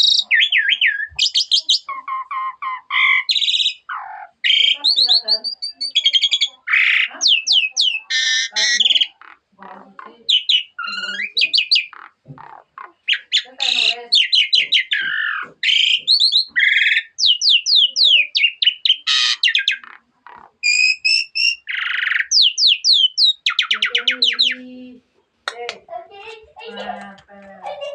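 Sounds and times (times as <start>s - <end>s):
starling singing varied song: 0.0s - 27.9s.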